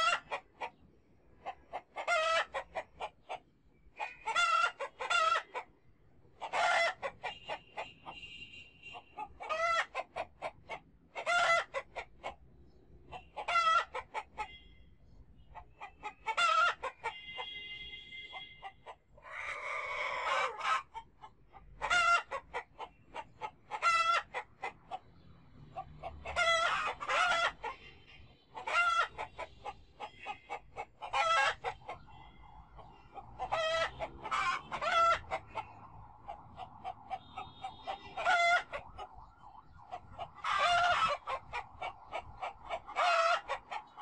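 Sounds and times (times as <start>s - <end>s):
chicken squawk: 0.0s - 0.8s, 1.4s - 3.4s, 4.0s - 5.7s, 6.4s - 8.2s, 8.9s - 12.4s, 13.1s - 14.6s, 15.5s - 17.6s, 18.3s - 25.0s, 25.7s - 39.2s, 40.0s - 44.0s
chickens clucking: 0.0s - 5.8s, 6.4s - 8.2s, 8.9s - 14.6s, 15.4s - 17.4s, 18.3s - 44.0s.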